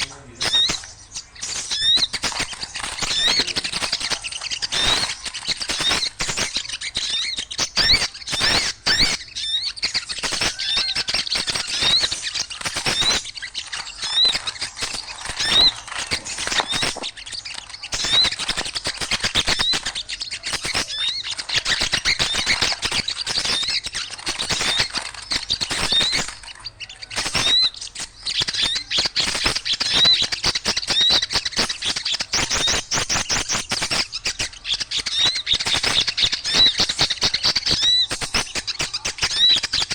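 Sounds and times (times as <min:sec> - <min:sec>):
small birds chirping and squawking: 0:00.0 - 0:39.9.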